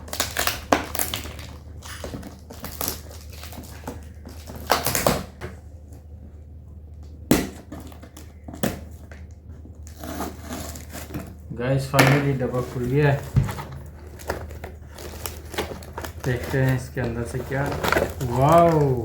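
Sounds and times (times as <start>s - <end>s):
packaging crunching and scraping: 0.0s - 5.4s, 7.5s - 19.0s
steady low hum: 0.0s - 19.0s.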